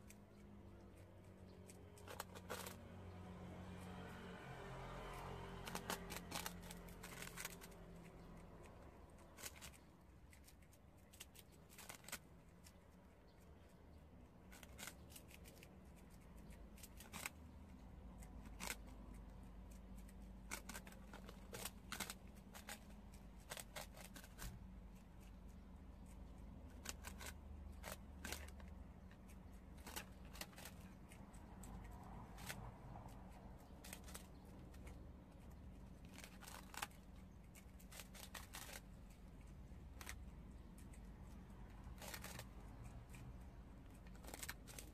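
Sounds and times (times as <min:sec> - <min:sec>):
crisp crunches of gnawing: 0:00.0 - 0:44.9
low steady hum: 0:00.0 - 0:44.9.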